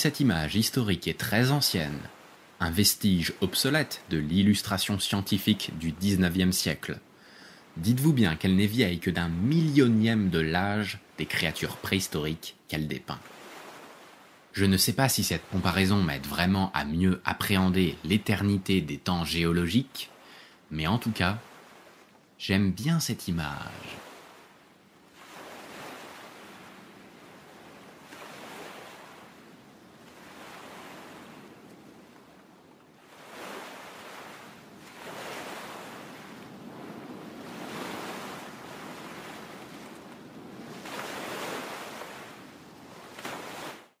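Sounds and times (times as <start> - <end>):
waves washing in: 0.0 - 44.0.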